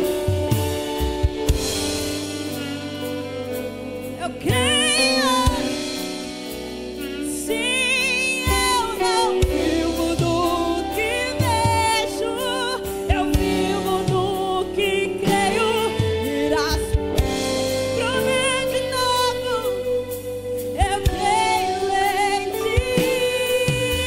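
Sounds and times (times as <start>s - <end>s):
sustained keyboard chords: 0.0s - 24.0s
woman singing with vibrato: 2.5s - 6.4s, 7.0s - 20.1s, 20.7s - 24.0s.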